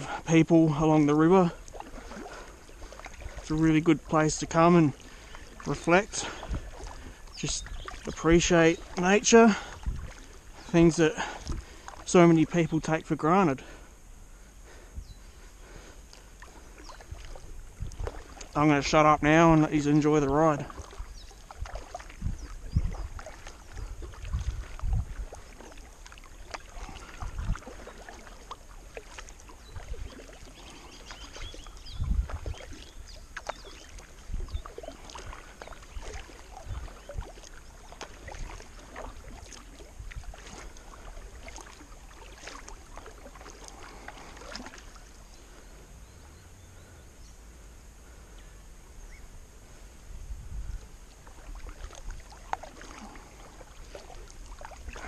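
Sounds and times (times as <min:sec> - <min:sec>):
paddle splashes and drips: 0:00.0 - 0:46.2, 0:50.4 - 0:55.0.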